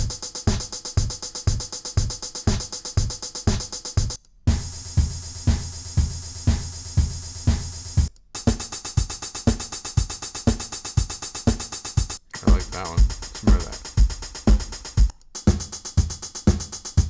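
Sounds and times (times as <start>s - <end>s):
hi-hat ticks: 0.0s - 17.0s
kick drum: 0.0s - 17.0s.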